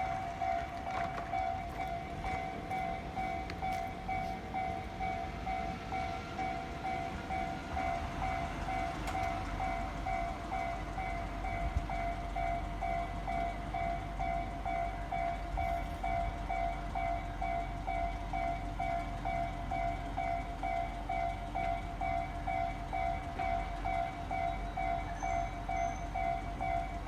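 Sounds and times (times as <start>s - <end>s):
road traffic rumble: 0.0s - 25.0s
level crossing alarm dinging: 0.0s - 27.0s.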